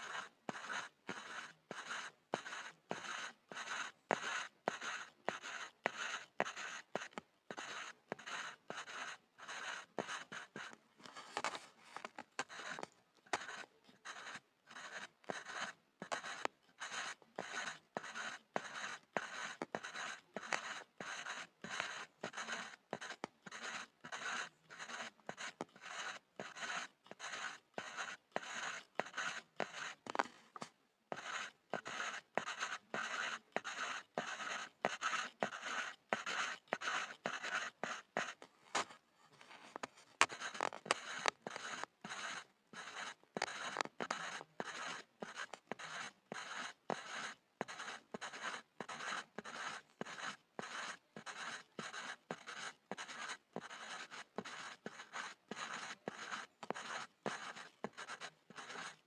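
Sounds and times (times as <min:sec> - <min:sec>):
pencil scribbling on a board: 0:00.0 - 0:30.2, 0:31.1 - 0:39.0, 0:39.6 - 0:59.0.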